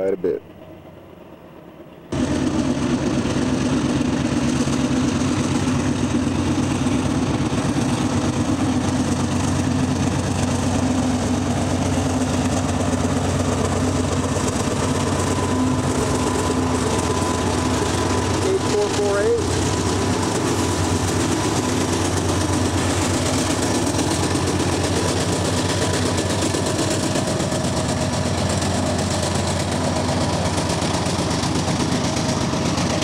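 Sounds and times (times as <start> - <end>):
diesel locomotives chugging: 0.0 - 33.0.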